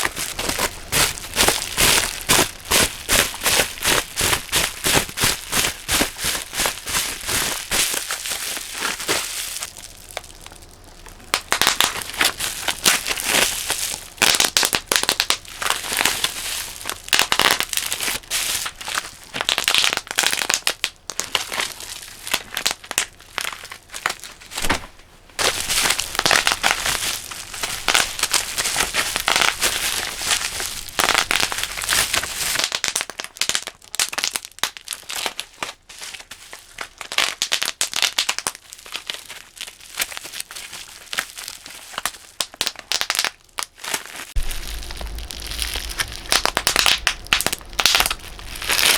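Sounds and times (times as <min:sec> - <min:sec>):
bubble wrap popping: 0:00.0 - 0:48.9.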